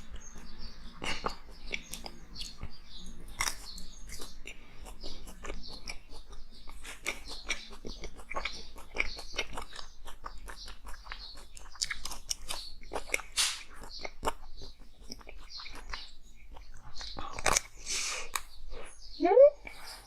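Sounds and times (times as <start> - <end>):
chewing ice crunches: 0.0 - 19.0.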